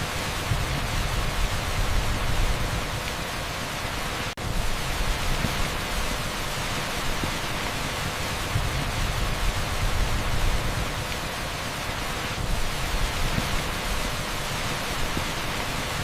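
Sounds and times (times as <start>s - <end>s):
heavy rain on asphalt: 0.0s - 16.0s.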